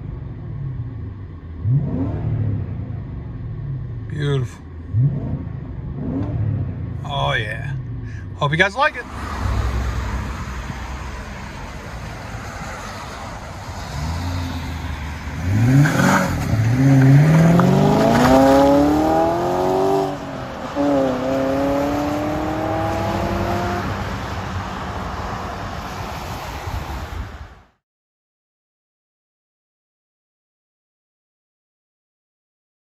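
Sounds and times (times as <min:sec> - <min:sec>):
car engine accelerating: 0:00.0 - 0:27.4.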